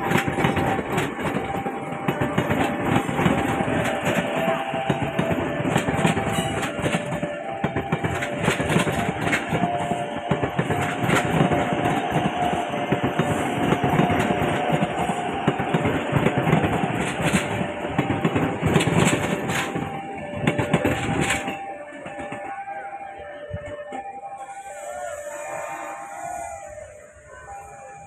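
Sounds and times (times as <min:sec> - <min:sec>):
wheels clicking over rails: 0:00.0 - 0:22.7
train rumbling past: 0:00.0 - 0:28.0.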